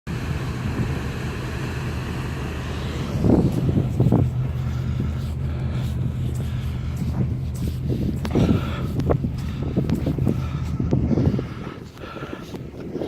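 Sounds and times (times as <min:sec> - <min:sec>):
low engine drone: 0:00.1 - 0:13.0
wind buffeting microphone: 0:00.1 - 0:13.0.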